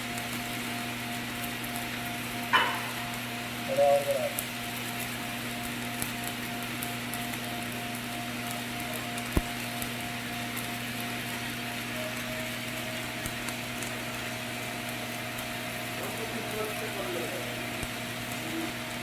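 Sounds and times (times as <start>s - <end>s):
steady hum: 0.0s - 19.0s
welding arc crackling: 0.0s - 19.0s.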